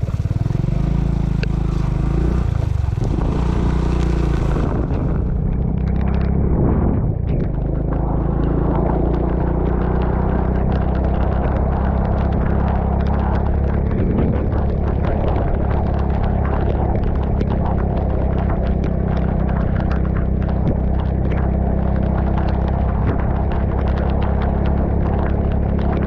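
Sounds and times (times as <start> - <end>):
vehicle engine running: 0.0 - 26.0
wind rumble on microphone: 0.0 - 26.0.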